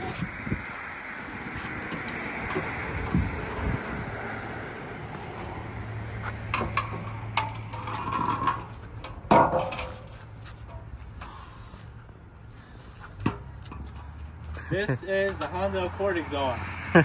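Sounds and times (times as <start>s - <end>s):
metal pipe scraping on asphalt: 0.0s - 16.8s.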